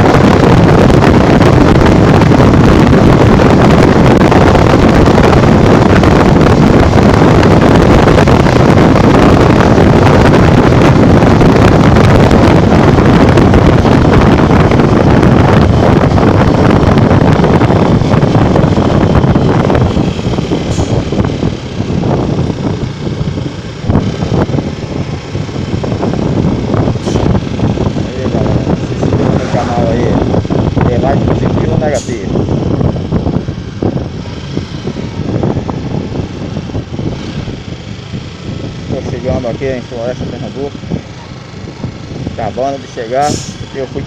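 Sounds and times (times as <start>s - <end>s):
motorcycle running at speed: 0.0s - 44.0s
wind rushing over microphone: 0.0s - 44.0s.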